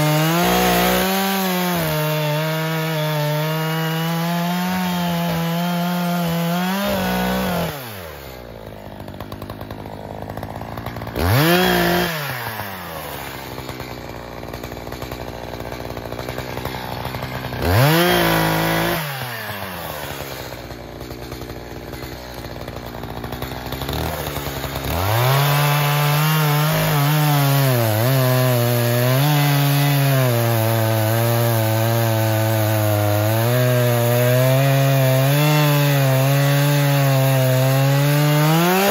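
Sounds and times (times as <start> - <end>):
chainsaw cutting log: 0.0 - 38.9
chainsaw idling and revving: 0.0 - 38.9.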